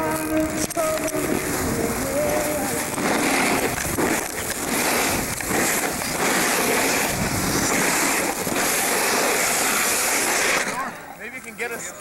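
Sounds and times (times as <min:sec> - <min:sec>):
wind rushing over microphone: 0:00.0 - 0:10.7
skis hissing on snow: 0:00.0 - 0:10.9.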